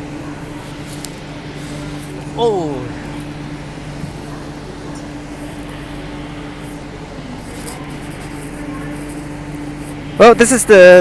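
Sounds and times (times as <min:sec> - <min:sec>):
train air-conditioning drone: 0:00.0 - 0:11.0.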